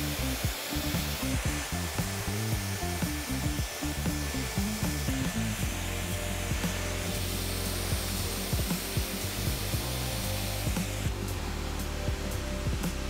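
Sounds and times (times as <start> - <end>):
background music with low bass: 0.0 - 13.0
hair dryer blowing: 0.0 - 13.0.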